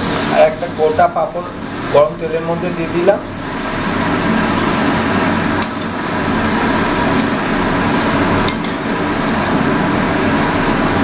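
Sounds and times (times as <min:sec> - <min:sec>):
deep-frying sizzle in oil: 0:00.0 - 0:11.0.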